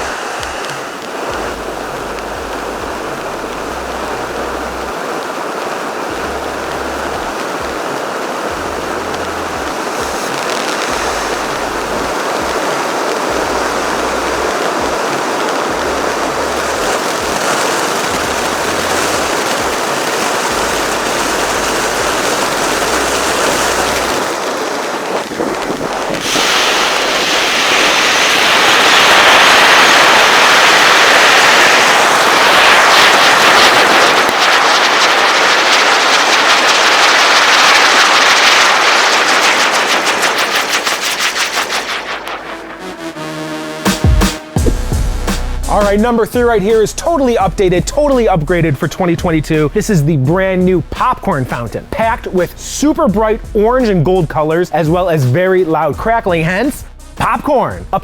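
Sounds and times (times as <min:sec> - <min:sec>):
firework fountain hissing: 0:00.0 - 0:58.0.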